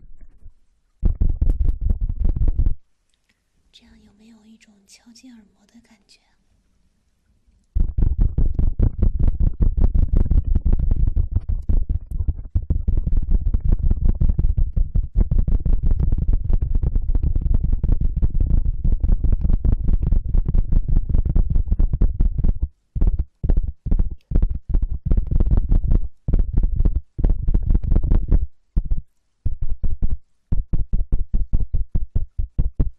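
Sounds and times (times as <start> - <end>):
scratching against microphone: 0.0 - 2.8, 7.8 - 32.9.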